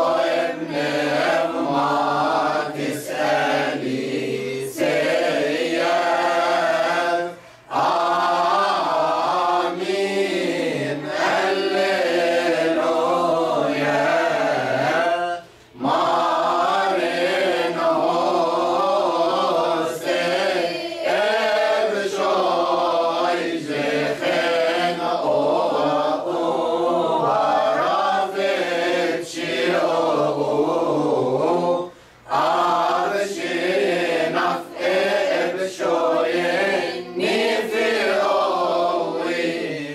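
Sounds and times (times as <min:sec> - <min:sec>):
group singing a hymn unaccompanied: 0:00.0 - 0:39.9.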